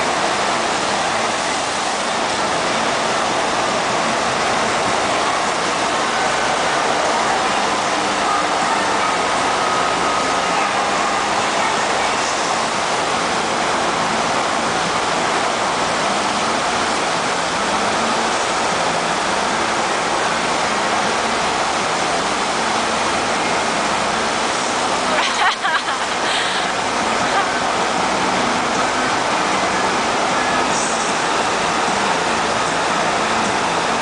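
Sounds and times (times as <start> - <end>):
roar of rushing water: 0.0 - 34.0.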